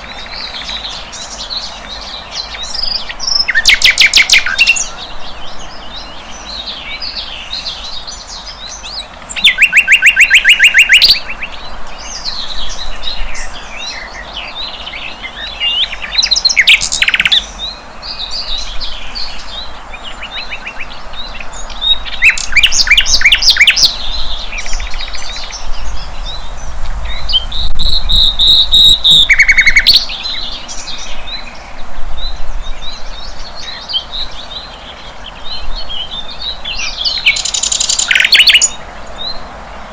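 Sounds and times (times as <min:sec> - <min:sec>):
bird song chirps and twittering: 0:00.0 - 0:39.9.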